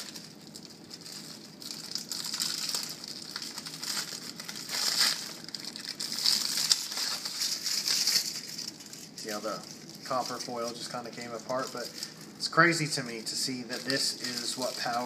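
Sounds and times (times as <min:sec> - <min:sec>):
battery foil layers crinkling: 0:00.0 - 0:15.0.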